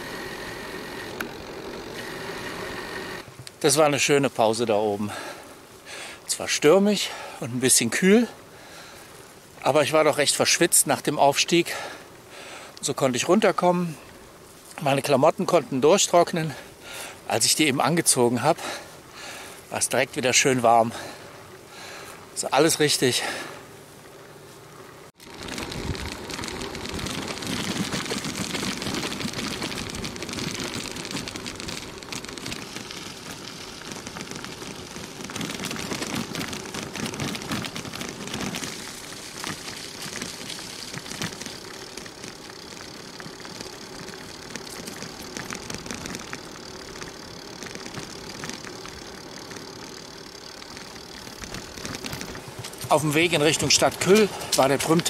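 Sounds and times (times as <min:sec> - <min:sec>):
bike rattling and ticking: 0:00.0 - 0:03.4, 0:09.8 - 0:24.3, 0:24.9 - 0:55.0
bicycle tyres crunching on gravel: 0:00.0 - 0:55.0.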